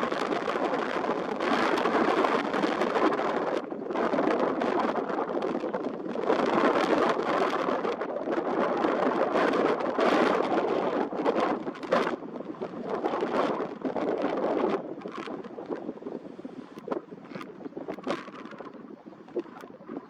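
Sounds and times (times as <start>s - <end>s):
wind gusting through reeds: 0.0s - 20.0s.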